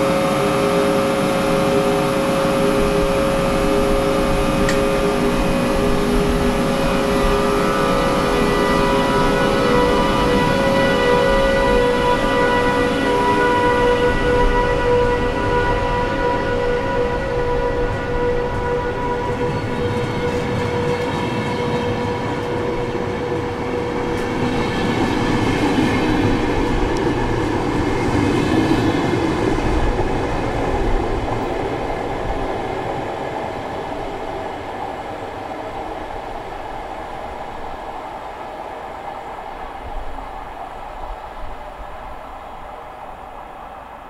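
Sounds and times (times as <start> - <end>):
train pulling away: 0.0 - 44.0.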